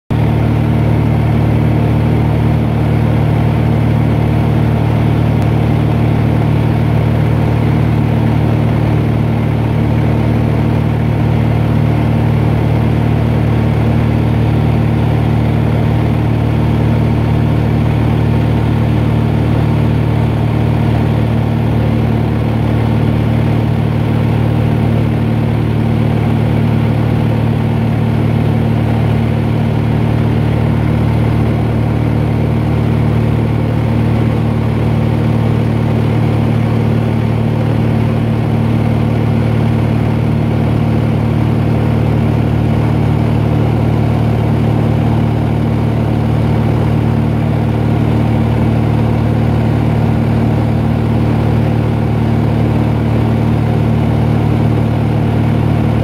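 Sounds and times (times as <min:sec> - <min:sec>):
aircraft cabin engine drone: 0:00.1 - 0:56.0.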